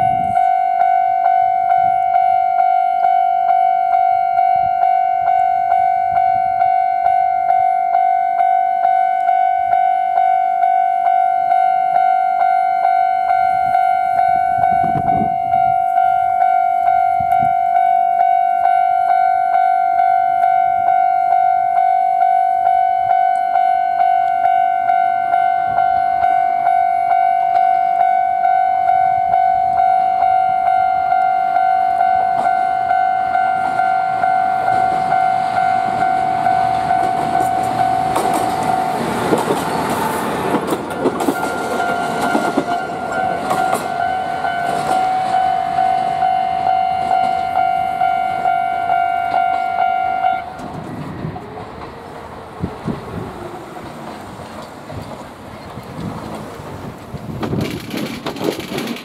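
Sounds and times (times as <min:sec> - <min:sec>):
level-crossing warning bell: 0:00.0 - 0:54.0
train passing: 0:00.0 - 0:59.0.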